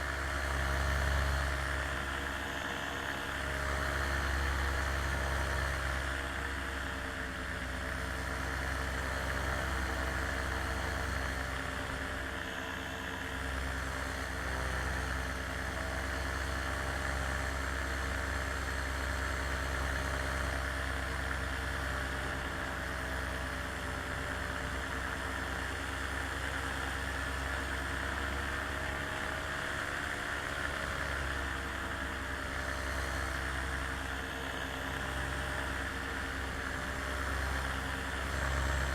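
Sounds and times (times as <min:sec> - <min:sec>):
aircraft propeller engine drone: 0:00.0 - 0:38.9.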